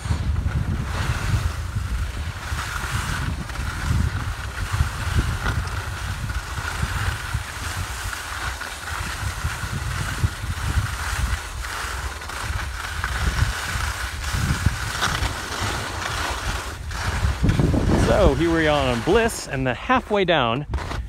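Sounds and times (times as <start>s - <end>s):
skis sliding over packed snow: 0.0s - 21.0s
wind buffeting microphone: 0.0s - 21.0s.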